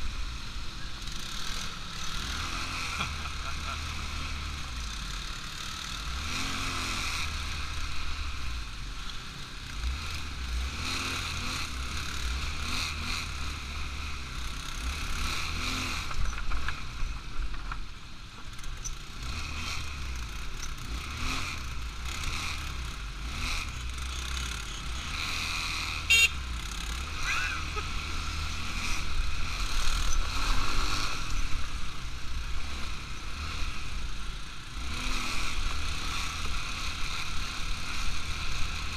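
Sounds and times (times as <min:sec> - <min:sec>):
quad engine running: 0:00.0 - 0:38.9.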